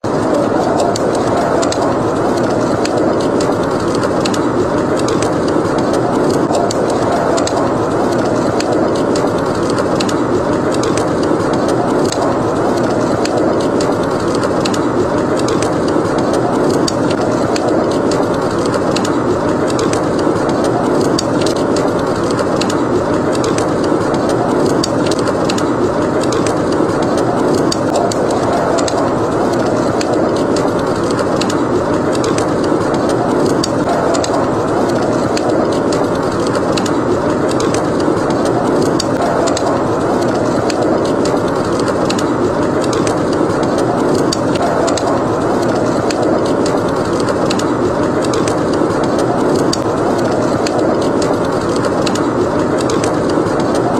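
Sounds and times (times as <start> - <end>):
fireplace crackling: 0.0 - 53.9
howling wind: 0.0 - 53.9.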